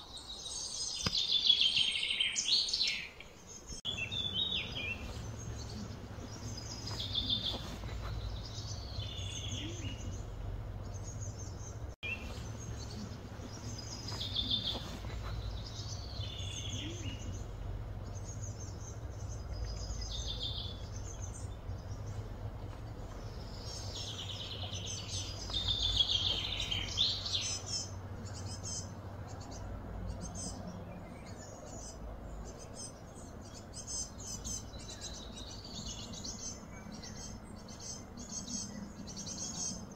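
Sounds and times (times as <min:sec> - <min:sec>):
birds singing: 0:00.0 - 0:39.9
steady low hum: 0:03.7 - 0:39.9.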